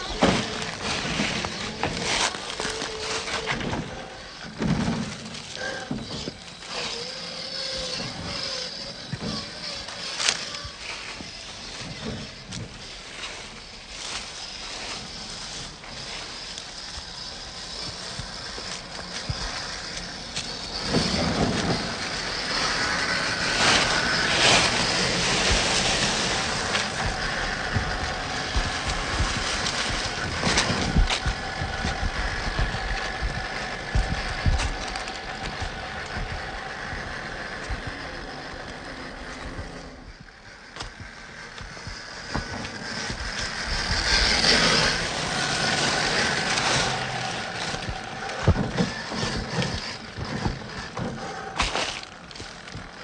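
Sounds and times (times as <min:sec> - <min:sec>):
electric motor and gears whining: 0:00.0 - 0:53.0
tyres crunching on dirt and rocks: 0:00.0 - 0:53.0.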